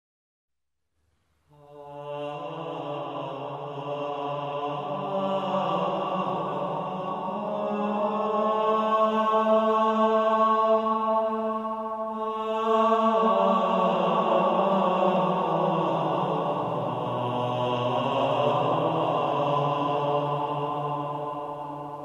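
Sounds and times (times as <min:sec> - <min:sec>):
chant-like drone music: 0:01.6 - 0:22.0.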